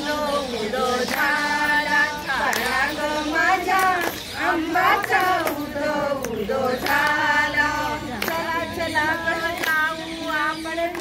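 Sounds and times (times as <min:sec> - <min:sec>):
women singing devotional song: 0:00.0 - 0:11.0
hands clapping on the beat: 0:00.8 - 0:11.0.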